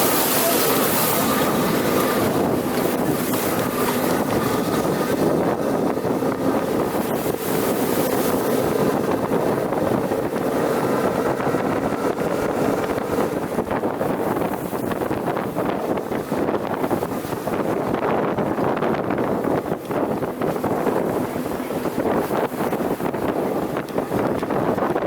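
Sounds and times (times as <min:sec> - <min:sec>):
truck engine running: 0:00.0 - 0:25.0
wind buffeting microphone: 0:00.0 - 0:25.0.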